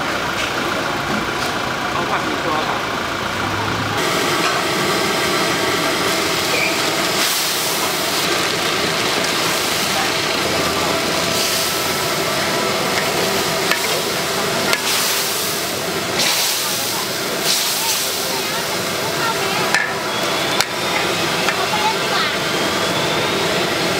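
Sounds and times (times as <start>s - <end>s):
noodles sizzling in a wok: 4.0s - 23.9s.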